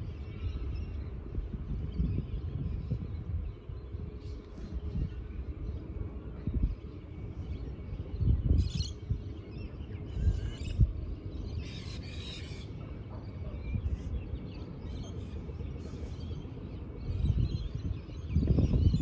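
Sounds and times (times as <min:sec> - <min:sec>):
wind rumbling on microphone: 0:00.0 - 0:19.0
birds calling: 0:03.6 - 0:19.0.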